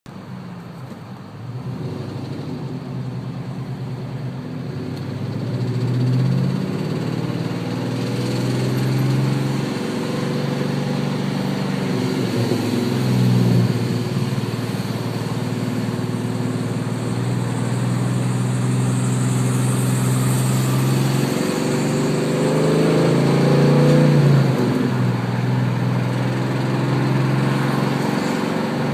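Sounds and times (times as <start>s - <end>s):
engine revving: 4.7s - 28.9s.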